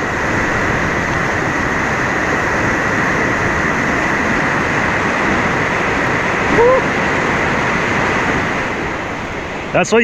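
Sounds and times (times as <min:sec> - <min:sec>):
whitewater rushing: 0:00.0 - 0:10.0.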